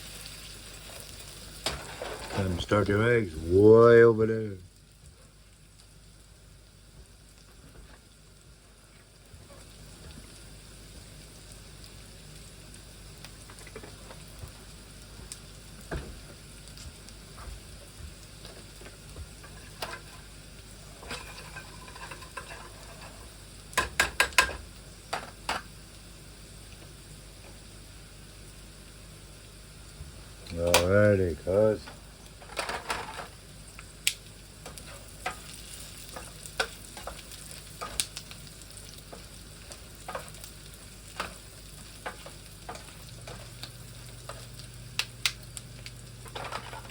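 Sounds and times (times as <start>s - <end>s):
food sizzling in a frying pan: 0.0s - 46.9s.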